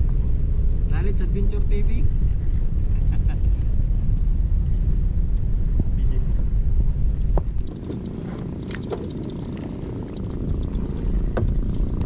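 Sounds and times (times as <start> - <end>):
motorboat engine rumble: 0.0 - 12.0
wind buffeting microphone: 0.0 - 12.0.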